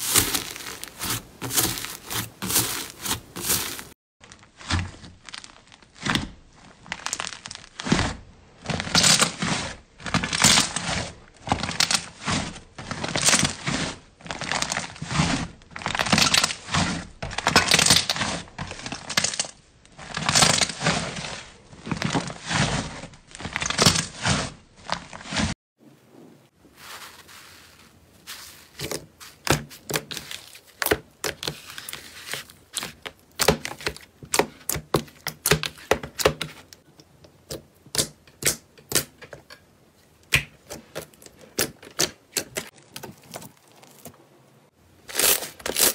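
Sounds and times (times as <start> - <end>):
slime crackling and crinkling: 0.0 - 25.5, 26.7 - 39.2, 40.1 - 45.9.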